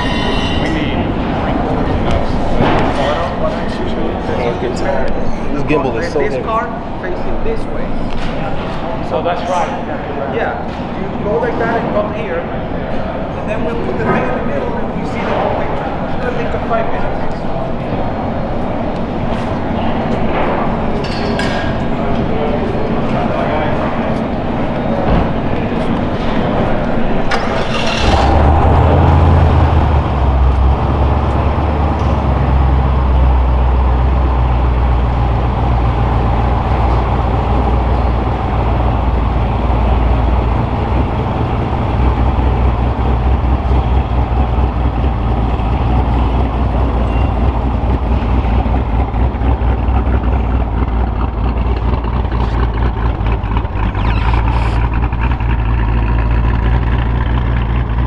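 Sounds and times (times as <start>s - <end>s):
car engine starting and idling: 0.0s - 58.0s.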